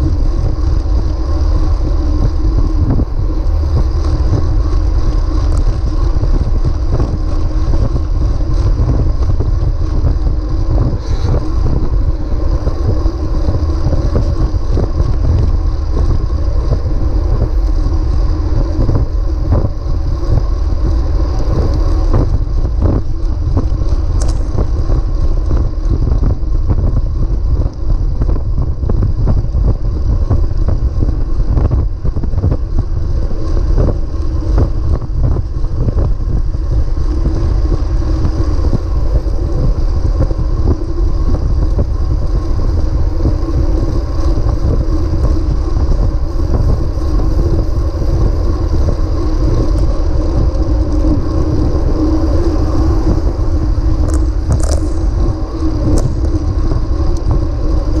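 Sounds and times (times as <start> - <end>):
tyre and road noise: 0.0 - 58.0
wind buffeting microphone: 0.0 - 58.0.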